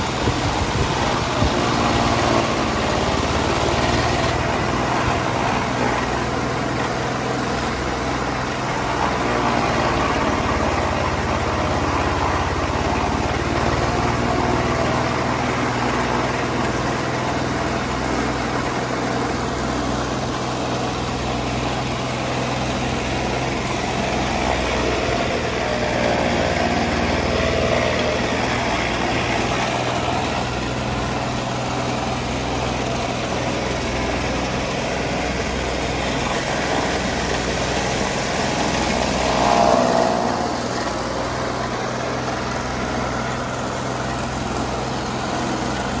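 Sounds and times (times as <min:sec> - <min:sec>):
chaff cutter motor hum: 0:00.0 - 0:46.0.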